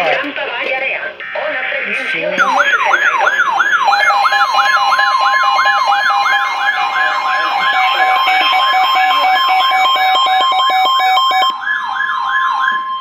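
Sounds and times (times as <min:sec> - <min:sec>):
beeping alarm tone: 0:02.4 - 0:13.0
steady alarm tone: 0:02.4 - 0:13.0
weather radio siren-like alarm: 0:02.4 - 0:13.0.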